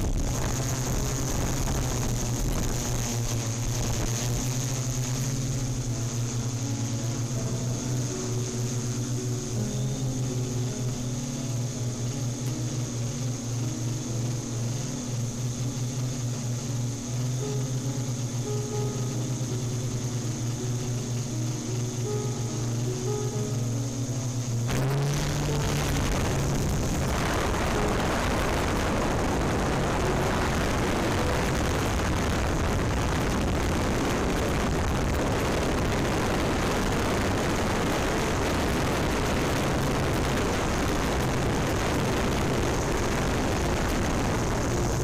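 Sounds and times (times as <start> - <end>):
drone motors whirring: 0.0 - 45.0
music: 0.0 - 45.0.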